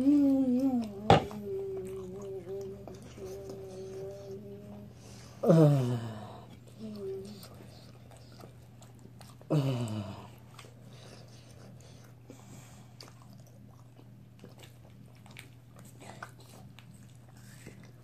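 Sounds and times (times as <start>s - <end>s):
people chewing food: 0.0s - 18.0s.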